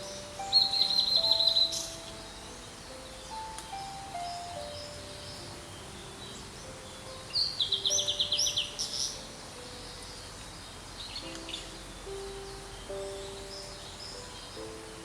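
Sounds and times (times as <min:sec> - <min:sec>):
bird singing: 0:00.0 - 0:15.0
soft background music: 0:00.0 - 0:15.0.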